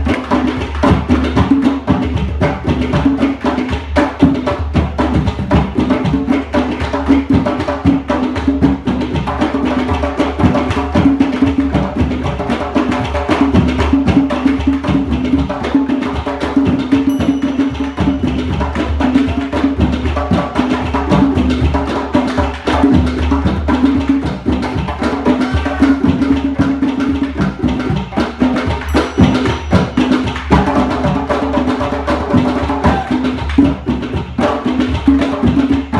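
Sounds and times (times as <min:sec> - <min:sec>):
rapid hand percussion: 0:00.0 - 0:35.9.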